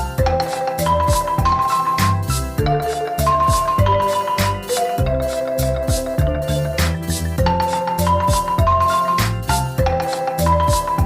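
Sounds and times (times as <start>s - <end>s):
mallet percussion melody with beat: 0.0s - 11.0s.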